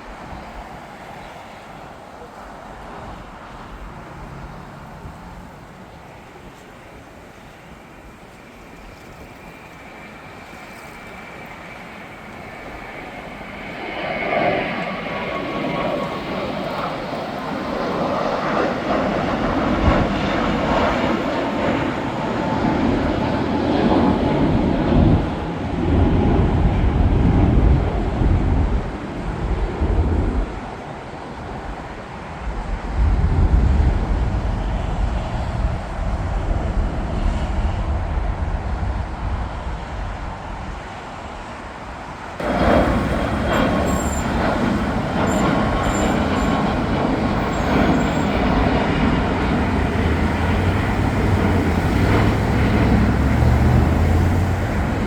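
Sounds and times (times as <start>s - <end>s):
jet engine whine: 0.0s - 55.0s
low rumble of jet noise: 0.0s - 55.0s.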